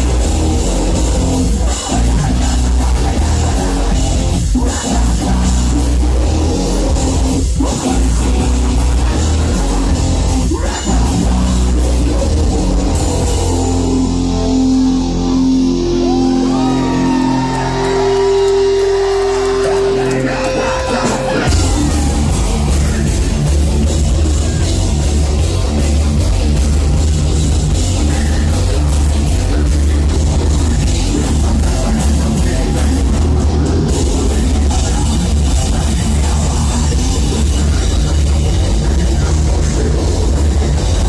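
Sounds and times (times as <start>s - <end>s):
heavy metal band playing live: 0.0s - 41.0s.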